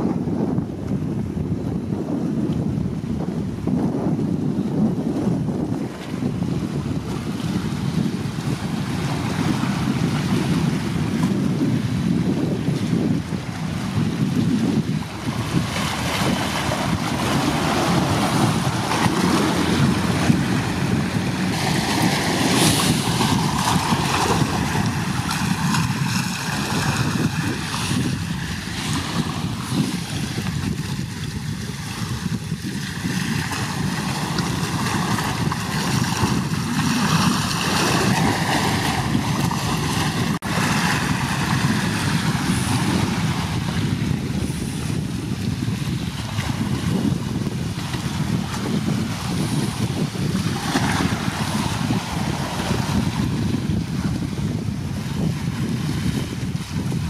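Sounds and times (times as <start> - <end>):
wind on microphone: 0.0 - 57.0
waves washing: 4.4 - 57.0.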